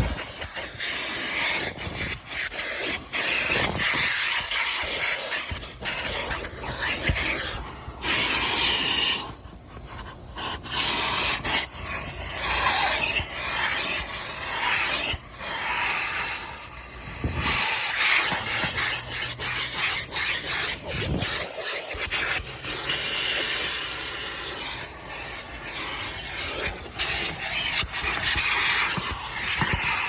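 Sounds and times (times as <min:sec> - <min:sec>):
nozzle scraping on surfaces: 0:00.0 - 0:30.0
vacuum hose sucking air: 0:00.0 - 0:30.0.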